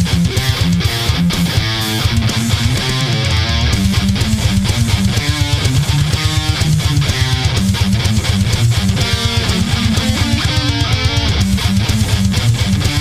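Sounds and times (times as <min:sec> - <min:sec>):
distorted electric guitar riffing: 0:00.0 - 0:13.0
programmed drums: 0:00.0 - 0:13.0.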